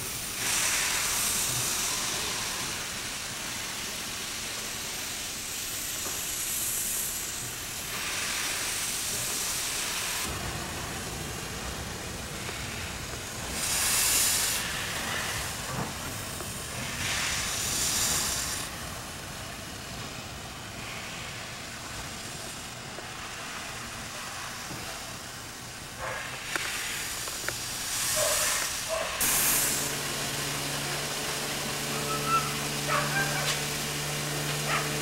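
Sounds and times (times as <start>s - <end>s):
background steam hiss: 0.0s - 35.0s
steam hissing bursts: 0.0s - 35.0s.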